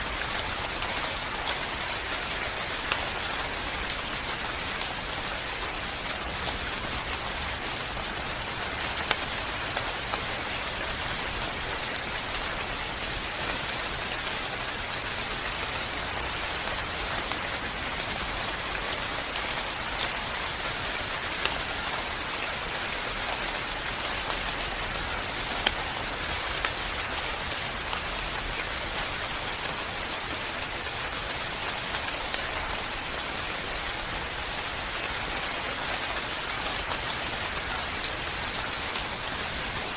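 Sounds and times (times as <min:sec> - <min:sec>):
louder raindrops: 0:00.0 - 0:39.9
rain falling: 0:00.0 - 0:39.9.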